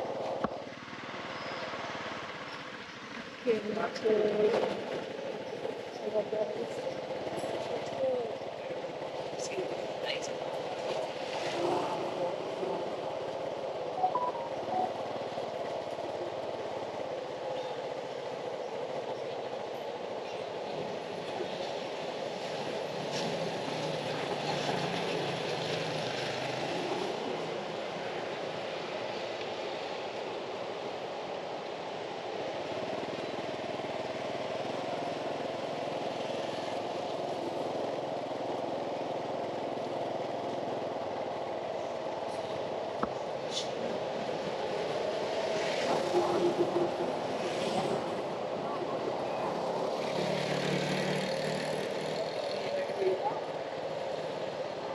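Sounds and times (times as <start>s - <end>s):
low mechanical street hum: 0.0s - 54.9s
tyre and road noise: 0.0s - 54.9s.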